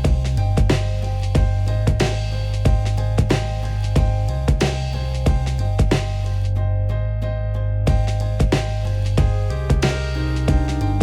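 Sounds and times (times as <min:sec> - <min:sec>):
steady drum beat: 0:00.0 - 0:06.5, 0:07.9 - 0:11.0
sustained bass and synth tones: 0:00.0 - 0:11.0.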